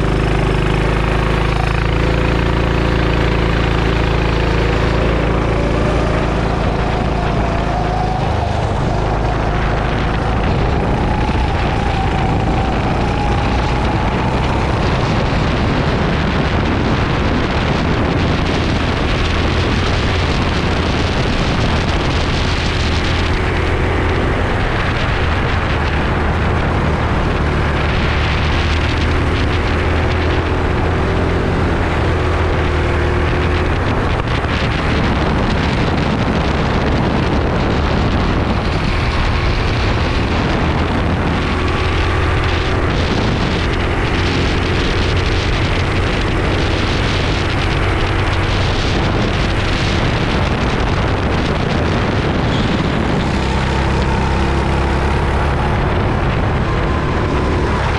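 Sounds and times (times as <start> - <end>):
go-kart engine revving: 0.0 - 57.9
wind noise on microphone: 0.0 - 57.9.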